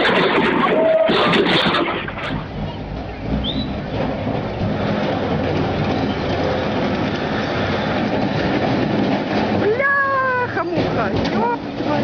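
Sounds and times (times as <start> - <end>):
steel tracks clattering: 0.0 - 12.0
tank diesel engine running: 0.0 - 12.0.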